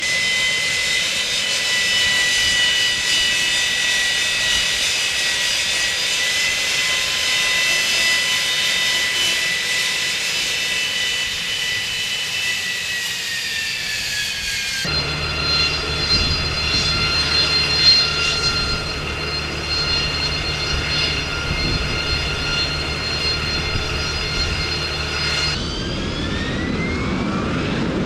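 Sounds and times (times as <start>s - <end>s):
jet engine high-pitched whine: 0.0s - 28.0s.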